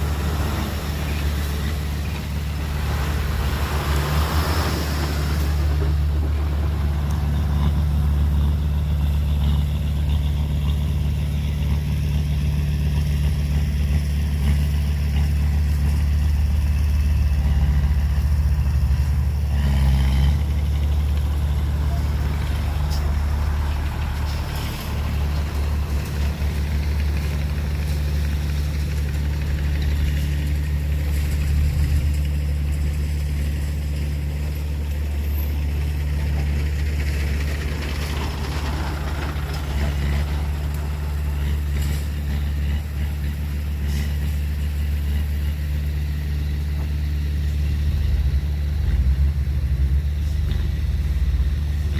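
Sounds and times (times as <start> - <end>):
heavy diesel engine droning: 0.0 - 51.9.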